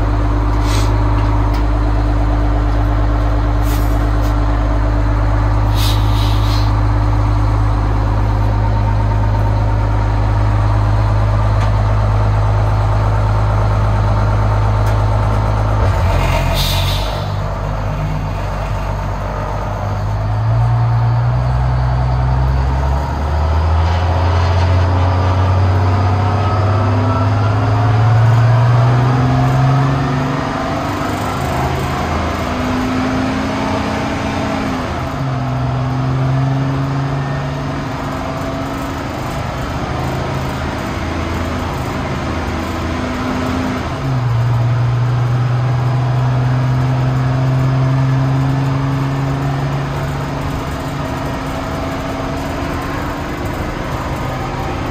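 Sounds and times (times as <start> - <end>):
fire truck engine accelerating: 0.0 - 54.9.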